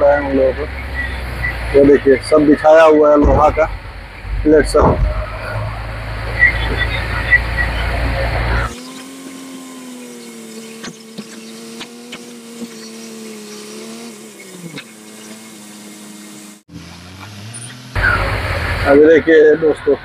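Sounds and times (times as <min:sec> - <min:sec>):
truck engine humming from cab: 0:00.0 - 0:20.0.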